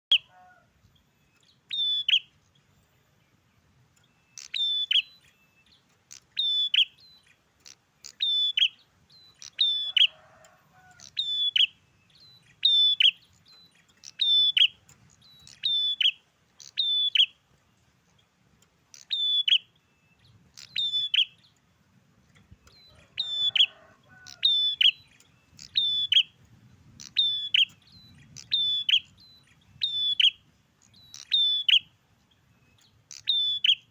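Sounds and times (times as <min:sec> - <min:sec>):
bird singing high phrase: 0:00.0 - 0:00.4, 0:01.0 - 0:10.2, 0:10.9 - 0:17.5, 0:18.2 - 0:21.7, 0:22.3 - 0:33.9.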